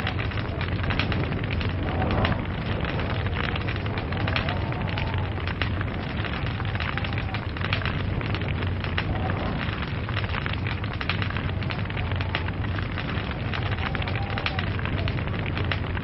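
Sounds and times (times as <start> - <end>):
log fire crackling and popping: 0.0 - 16.0.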